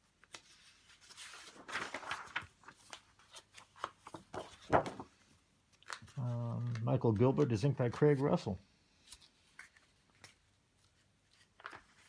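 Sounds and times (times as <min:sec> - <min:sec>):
paper sheets rustling: 0:00.0 - 0:05.2, 0:05.8 - 0:12.0.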